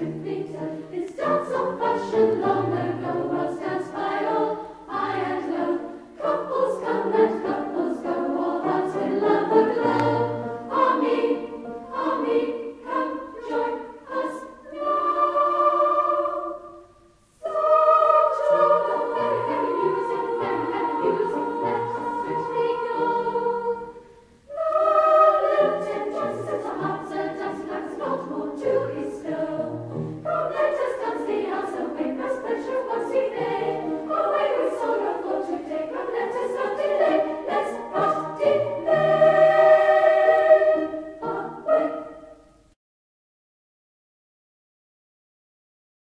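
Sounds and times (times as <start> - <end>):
choir singing a hymn: 0.0 - 42.7.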